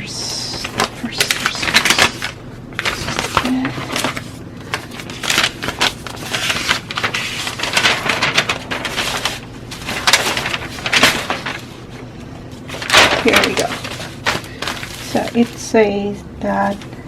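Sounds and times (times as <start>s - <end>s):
paper rustling and crinkling: 0.2s - 16.0s, 16.6s - 17.0s.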